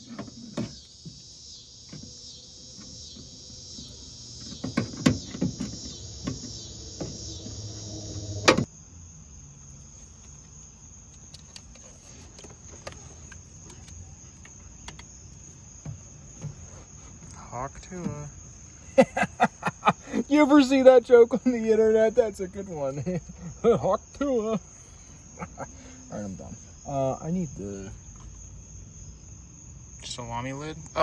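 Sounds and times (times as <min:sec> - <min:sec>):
crickets chirping: 0:00.0 - 0:31.0
high insect trill: 0:00.0 - 0:31.0.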